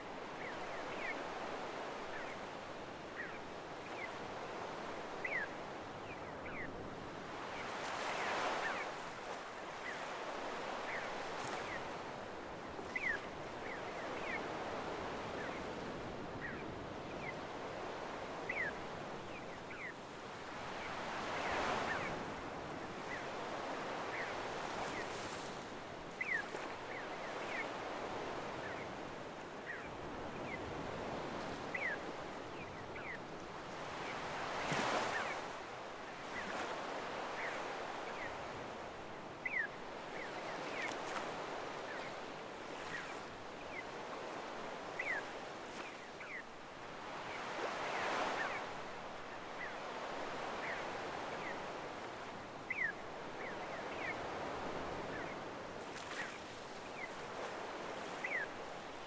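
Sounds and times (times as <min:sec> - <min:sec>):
waves washing up beach: 0:00.0 - 0:59.0.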